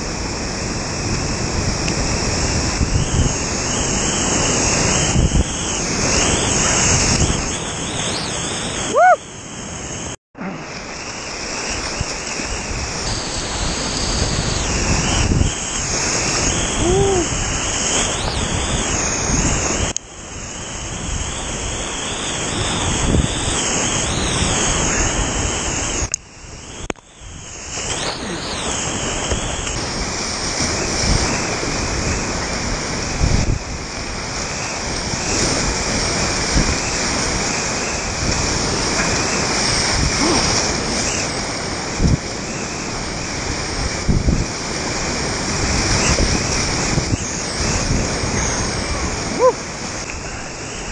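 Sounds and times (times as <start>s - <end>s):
whitewater rapids rushing: 0.0s - 50.9s.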